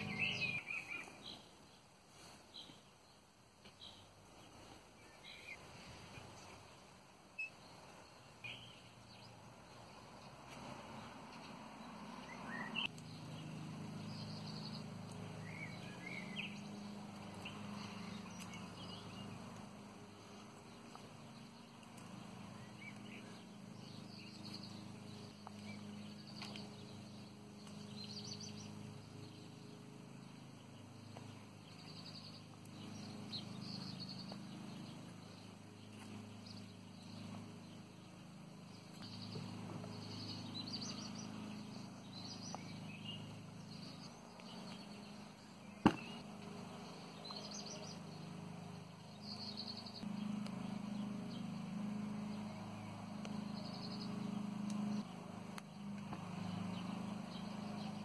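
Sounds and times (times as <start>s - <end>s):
steady low hum: 0.0s - 1.9s, 3.3s - 58.0s
faint birds chirping: 0.0s - 58.0s.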